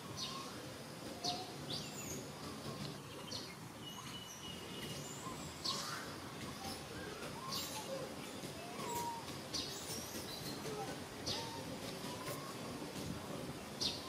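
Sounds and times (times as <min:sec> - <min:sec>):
background hiss: 0:00.0 - 0:14.0
small birds chirping: 0:00.0 - 0:14.0.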